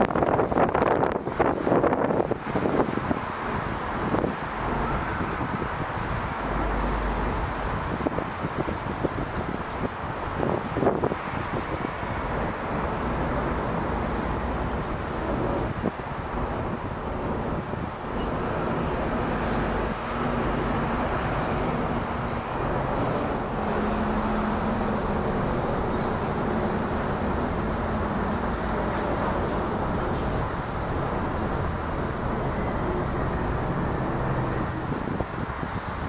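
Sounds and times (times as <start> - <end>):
distant airliner roar overhead: 0.0 - 36.0.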